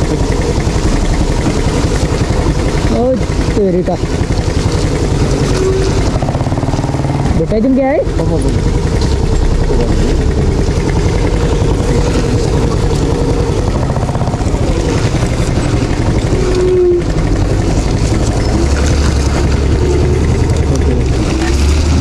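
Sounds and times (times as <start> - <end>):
rumble over dirt road: 0.0 - 22.0
vehicle engine under load: 0.0 - 22.0.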